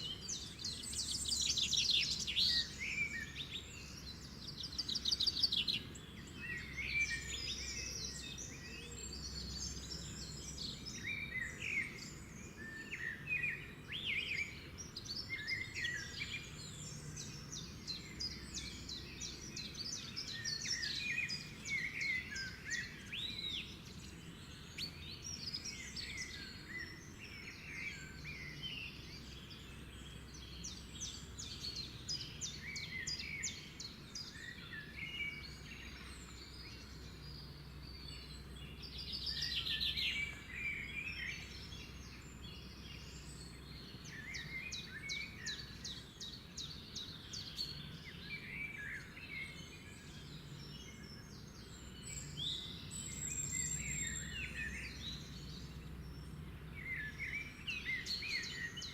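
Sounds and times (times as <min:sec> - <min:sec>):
birds singing and chirping: 0:00.0 - 0:58.9.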